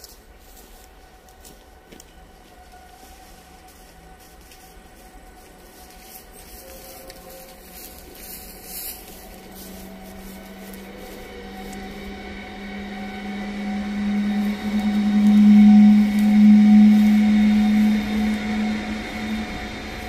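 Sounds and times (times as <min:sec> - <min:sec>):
electric locomotive hum and whine: 0:00.0 - 0:20.0.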